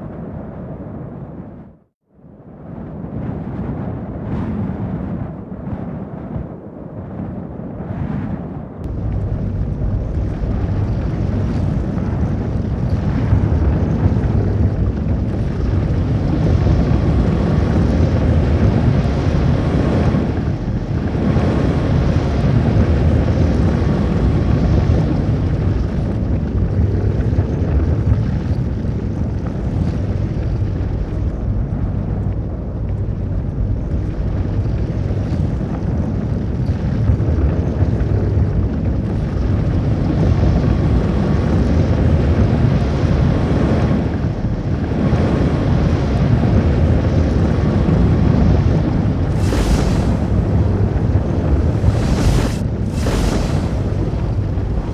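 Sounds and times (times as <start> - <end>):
tornado wind rushing: 0.0 - 54.9.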